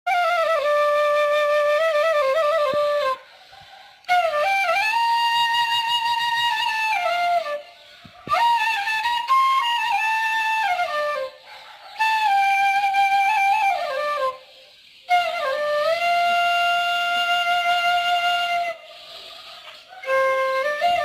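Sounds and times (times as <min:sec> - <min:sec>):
solo flute melody: 0:00.1 - 0:21.0.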